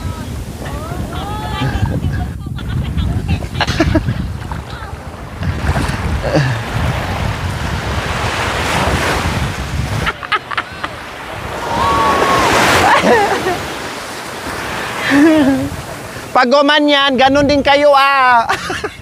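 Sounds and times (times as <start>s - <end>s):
sea waves: 0.0s - 19.0s
wind buffeting microphone: 0.0s - 19.0s.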